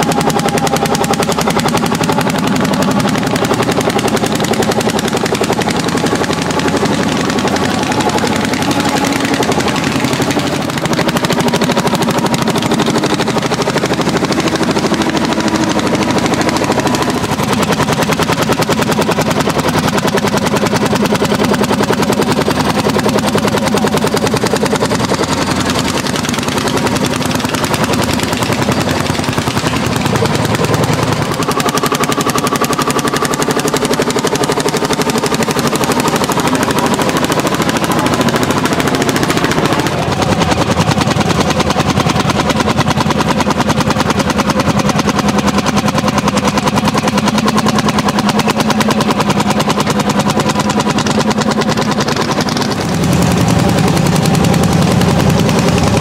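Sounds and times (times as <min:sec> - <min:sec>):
tractor engines under load: 0:00.0 - 0:56.0.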